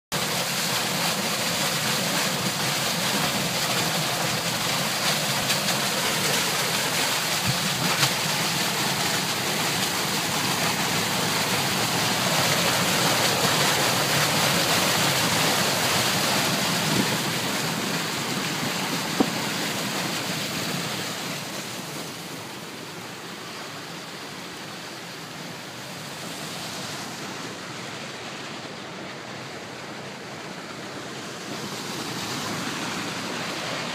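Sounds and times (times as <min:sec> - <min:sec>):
storm water rushing into drain: 0:00.1 - 0:33.9.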